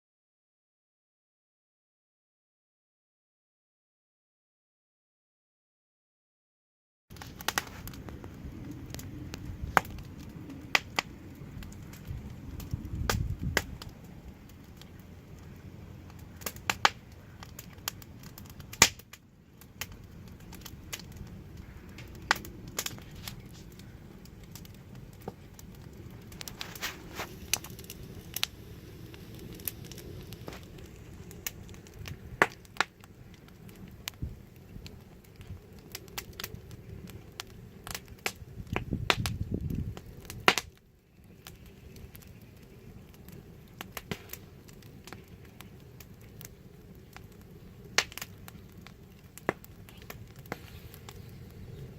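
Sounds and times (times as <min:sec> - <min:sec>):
fire pops and snaps: 0:07.1 - 0:51.9
low rumble of flames: 0:07.1 - 0:51.9
wood fire crackling: 0:07.1 - 0:51.9.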